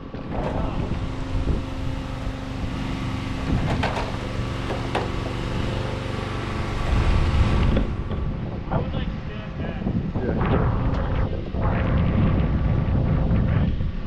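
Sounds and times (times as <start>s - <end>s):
engine running steadily: 0.0s - 14.0s
wind rumbling on microphone: 0.0s - 14.0s.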